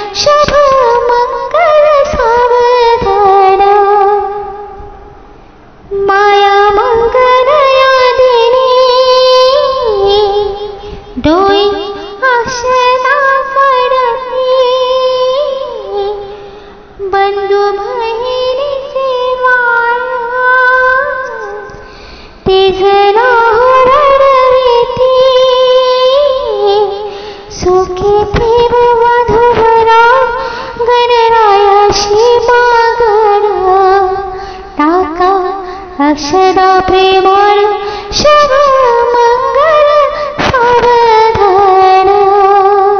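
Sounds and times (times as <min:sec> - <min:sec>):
woman singing: 0:00.0 - 0:05.1, 0:05.9 - 0:42.9.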